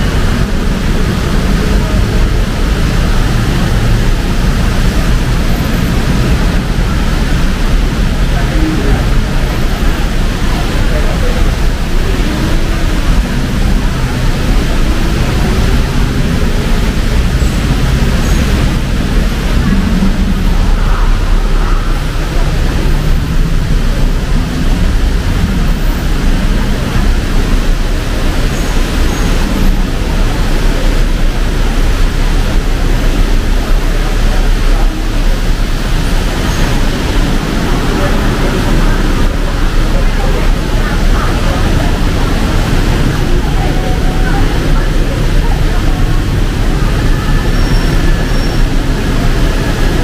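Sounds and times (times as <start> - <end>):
heavy rain pouring: 0.0 - 50.0
street traffic: 0.0 - 50.0.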